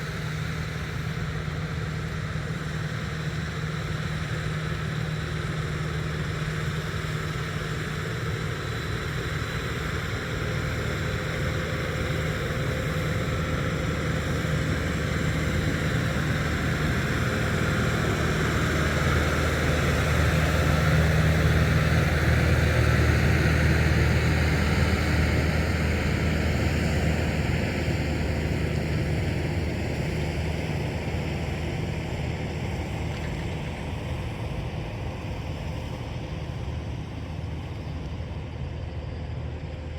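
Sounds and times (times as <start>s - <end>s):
tractor engine drone: 0.0s - 39.9s.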